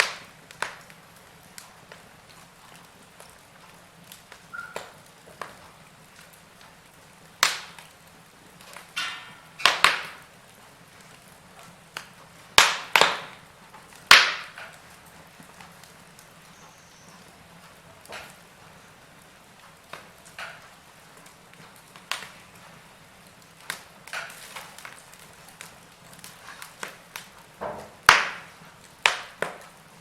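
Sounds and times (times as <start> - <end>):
faint steady hiss: 0.0 - 30.0
wood fire crackling: 0.0 - 30.0.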